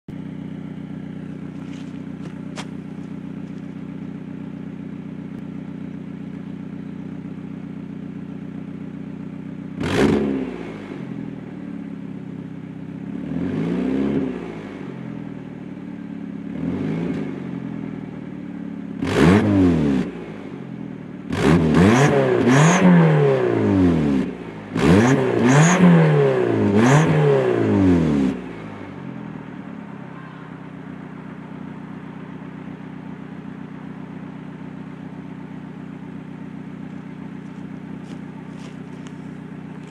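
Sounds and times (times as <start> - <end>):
car engine idling and revving: 0.1 - 39.9.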